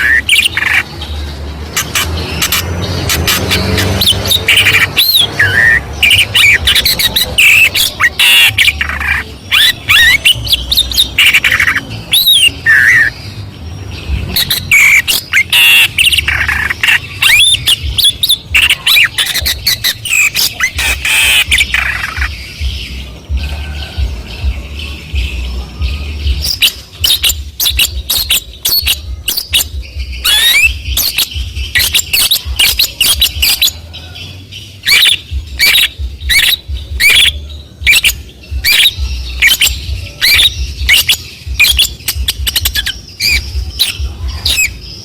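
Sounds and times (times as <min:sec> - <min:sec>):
bird singing varied chirps: 0:00.0 - 0:45.0.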